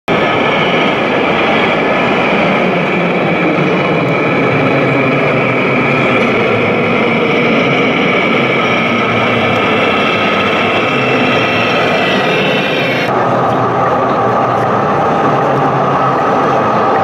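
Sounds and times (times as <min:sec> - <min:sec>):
heavy truck diesel engine drone: 0:00.1 - 0:17.0.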